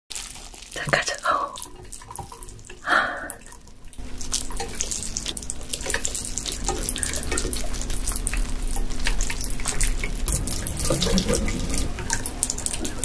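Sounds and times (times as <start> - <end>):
water and fish splashing onto plate: 0.1 - 13.0
watery pour with wet clicks: 0.7 - 13.0.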